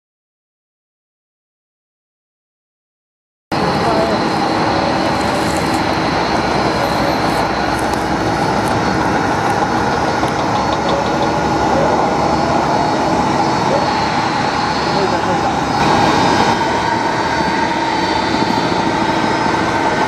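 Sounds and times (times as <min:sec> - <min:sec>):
jet engines whining: 0:03.5 - 0:20.0.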